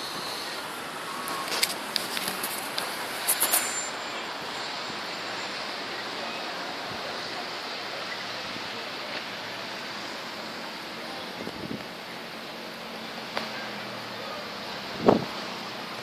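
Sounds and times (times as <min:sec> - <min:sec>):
rushing sea and town ambience: 0:00.0 - 0:16.0.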